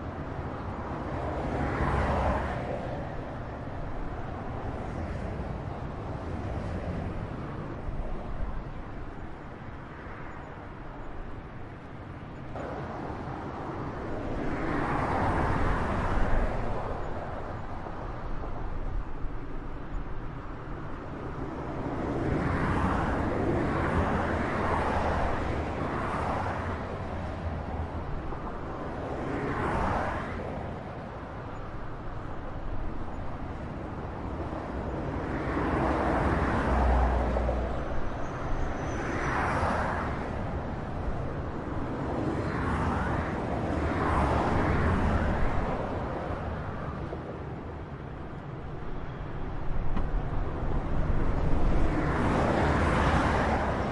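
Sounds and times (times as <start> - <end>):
highway traffic rush: 0.0 - 53.9
vehicles passing by: 0.0 - 53.9.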